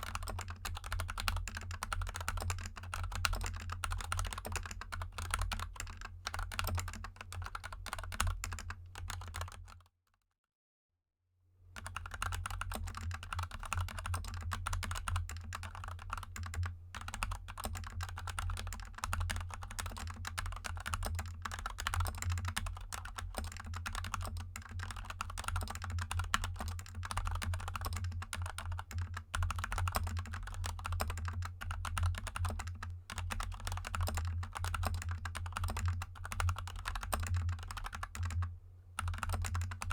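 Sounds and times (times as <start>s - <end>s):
fast mechanical keyboard typing: 0.0s - 9.8s, 11.8s - 39.9s.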